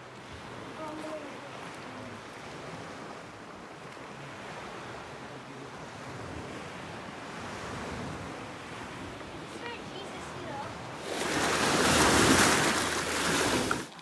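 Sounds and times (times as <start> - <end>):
wind buffeting microphone: 0.0 - 13.9
sea surf rushing: 0.0 - 14.0.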